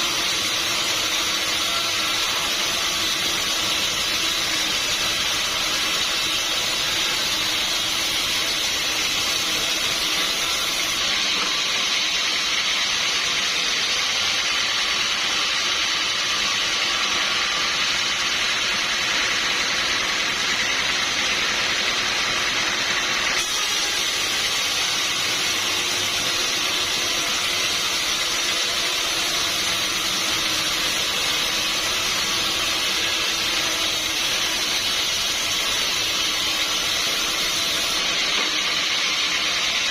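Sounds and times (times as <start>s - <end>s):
sawmill saw hissing: 0.0s - 39.9s.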